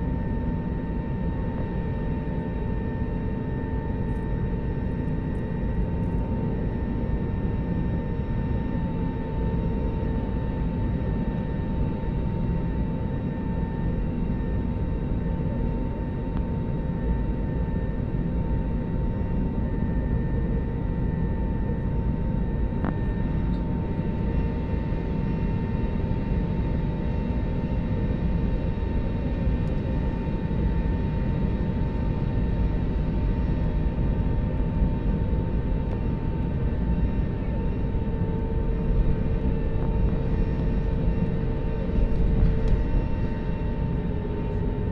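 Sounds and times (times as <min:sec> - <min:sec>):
airliner cabin engine noise: 0:00.0 - 0:44.9.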